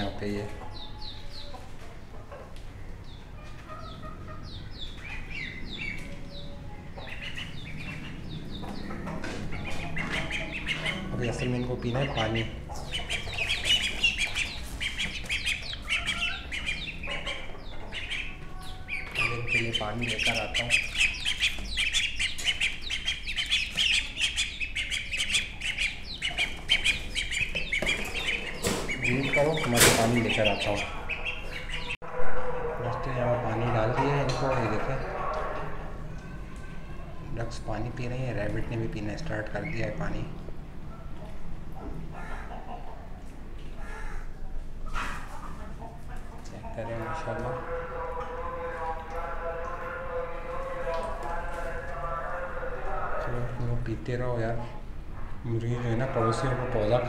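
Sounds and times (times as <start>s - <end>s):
chicks and ducklings peeping: 0.0s - 57.0s
lower poultry calls: 0.0s - 57.0s.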